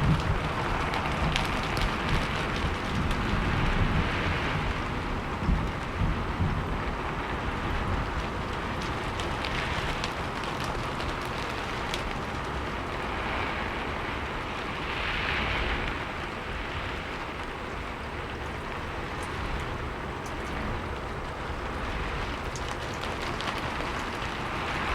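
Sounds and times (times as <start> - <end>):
raindrops ticking: 0.0 - 14.8, 15.8 - 24.9
steady rainfall: 0.0 - 24.9.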